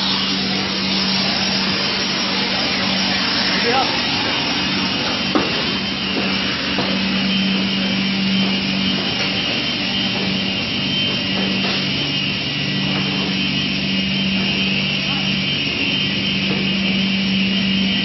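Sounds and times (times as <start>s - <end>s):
lower mechanical hum: 0.0s - 18.0s
machinery humming and whirring: 0.0s - 18.0s.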